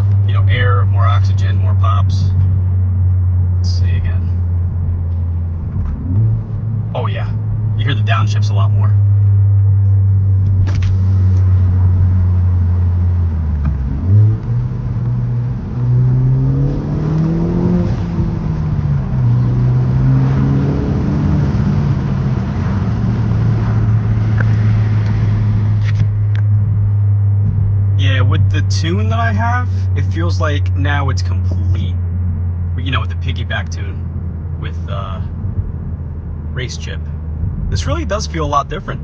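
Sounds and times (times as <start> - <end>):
car engine droning and revving: 0.0 - 39.0.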